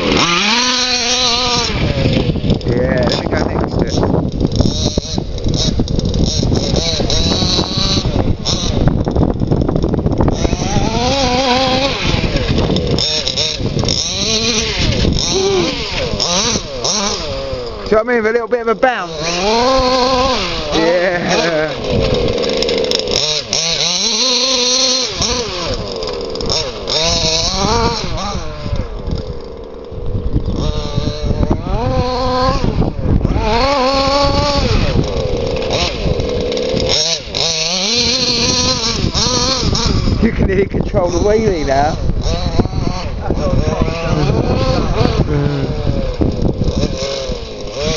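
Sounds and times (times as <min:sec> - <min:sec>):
rc car engine revving: 0:00.0 - 0:47.9.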